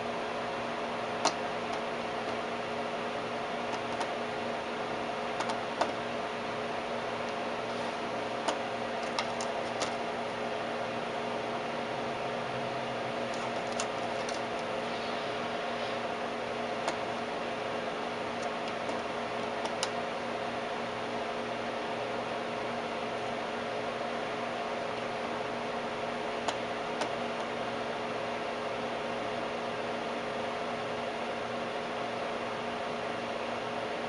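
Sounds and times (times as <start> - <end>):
cooling fan whir and hum: 0.0 - 34.0.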